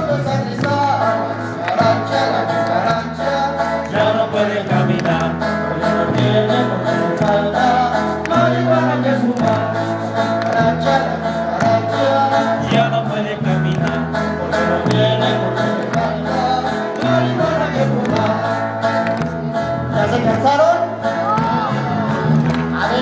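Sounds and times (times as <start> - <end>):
live band playing folk music: 0.0 - 23.0
voices singing along: 0.0 - 23.0.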